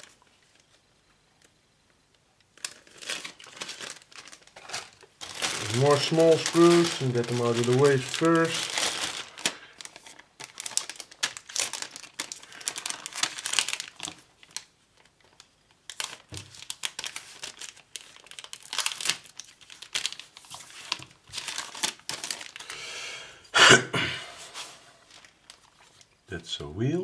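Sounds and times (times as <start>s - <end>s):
plastic bag crinkling: 0.0s - 0.8s, 2.4s - 22.8s, 24.3s - 26.2s.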